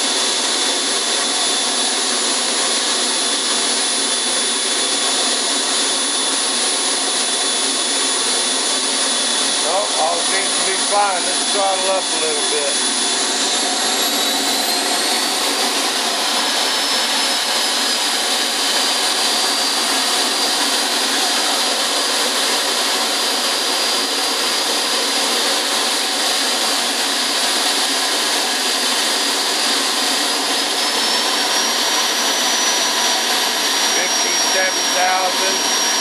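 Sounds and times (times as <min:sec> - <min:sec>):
model jet turbine whining: 0:00.0 - 0:36.0.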